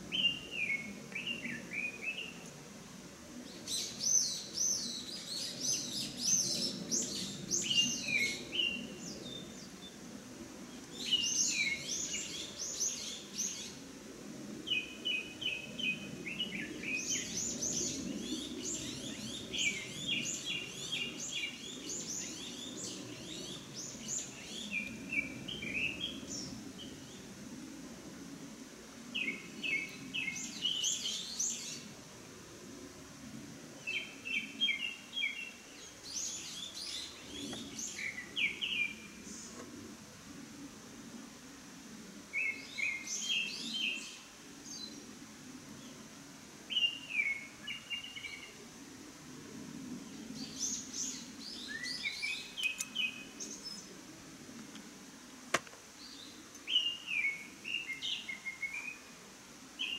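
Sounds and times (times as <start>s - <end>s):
songbird singing: 0.0s - 32.2s, 33.2s - 59.9s.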